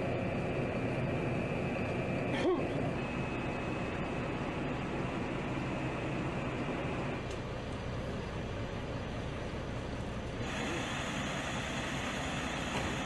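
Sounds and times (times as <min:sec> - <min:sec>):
bus engines idling: 0:00.0 - 0:13.0.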